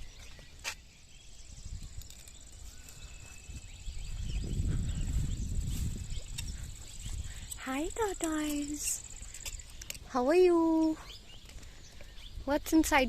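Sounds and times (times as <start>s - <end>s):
insects trilling: 0.6s - 13.0s.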